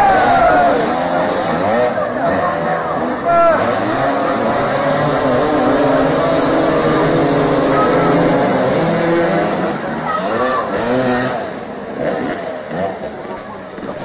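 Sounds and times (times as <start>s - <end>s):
motorcycles revving: 0.0s - 14.0s.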